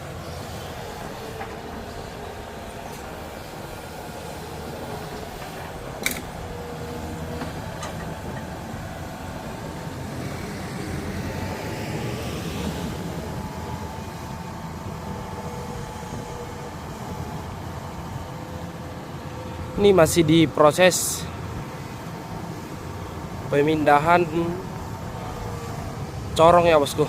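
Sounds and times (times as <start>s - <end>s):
heavy diesel machinery running: 0.0s - 27.0s.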